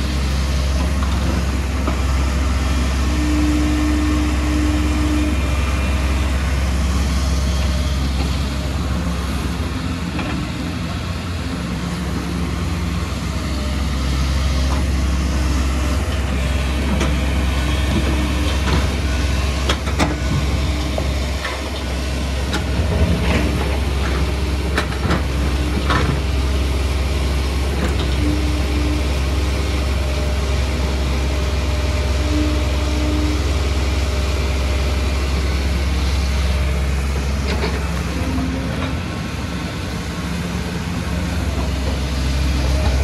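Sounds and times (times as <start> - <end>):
excavator diesel engine drone: 0.0 - 43.0.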